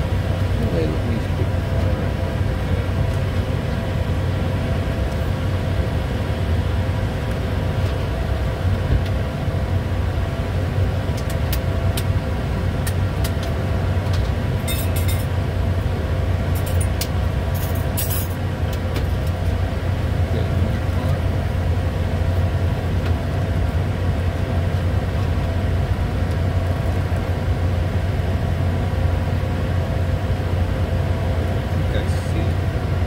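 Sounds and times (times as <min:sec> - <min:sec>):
jet cockpit rumble: 0:00.0 - 0:33.0
steady hums: 0:00.0 - 0:33.0.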